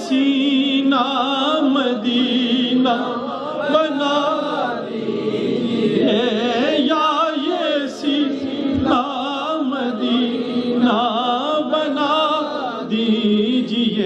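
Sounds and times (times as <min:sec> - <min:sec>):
man singing into a microphone: 0:00.0 - 0:04.4, 0:06.0 - 0:14.0.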